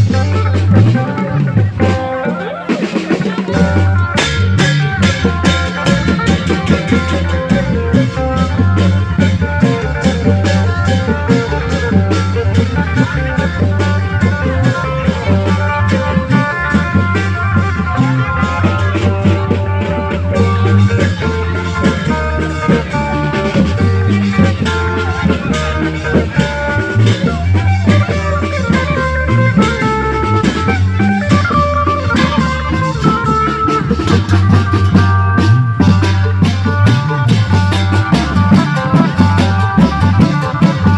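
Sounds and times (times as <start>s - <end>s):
fast dense drumming: 0.0s - 40.9s.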